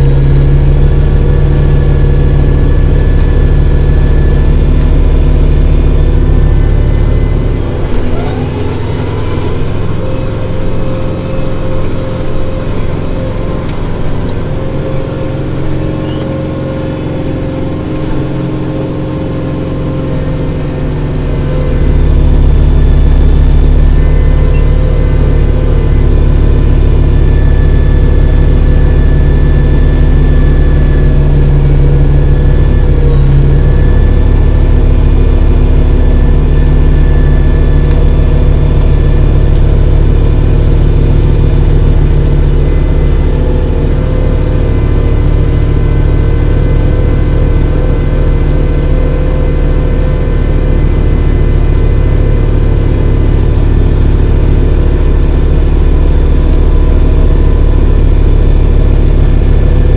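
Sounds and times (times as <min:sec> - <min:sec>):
snowblower whine: 0:00.0 - 0:59.9
tractor diesel engine running: 0:00.0 - 0:59.9.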